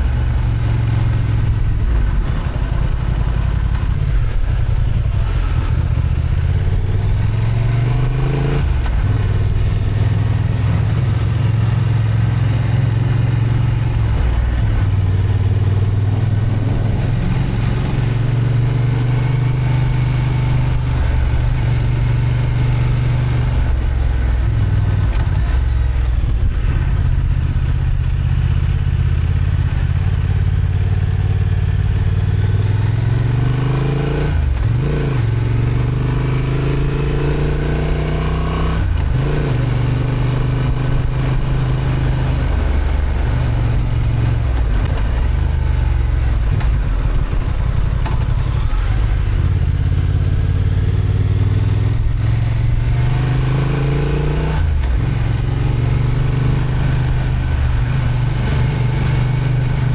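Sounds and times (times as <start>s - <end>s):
motorcycle engine under load: 0.0s - 59.9s.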